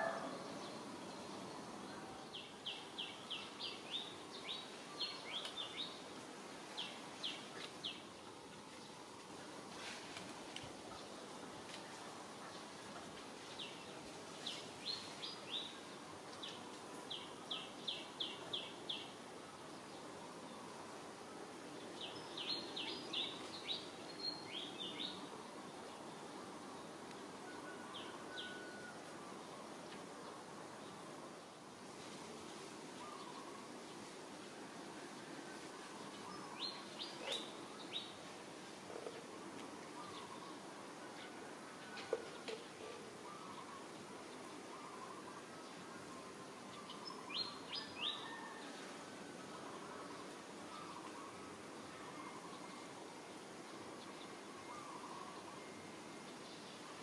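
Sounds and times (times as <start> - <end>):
faint outdoor hiss among trees: 0.0 - 57.0.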